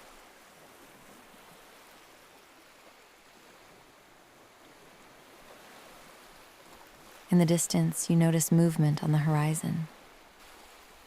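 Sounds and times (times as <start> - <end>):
faint ocean waves: 0.0 - 11.0.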